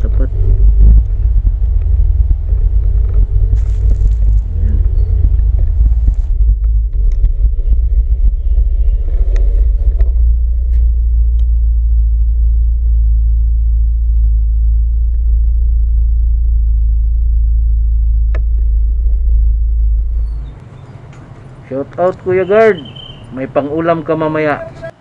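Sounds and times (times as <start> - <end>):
motorcycle engine rumbling: 0.0 - 25.0.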